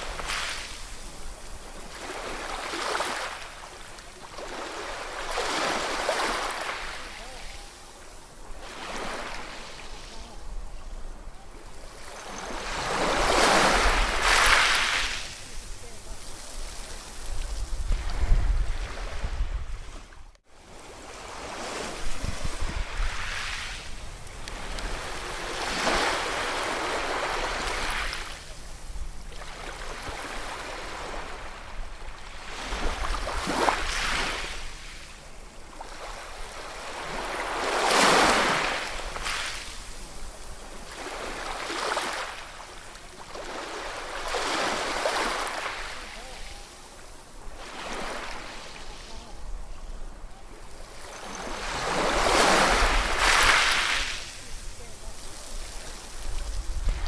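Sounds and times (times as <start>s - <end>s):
sea waves breaking ashore: 0.0s - 57.0s.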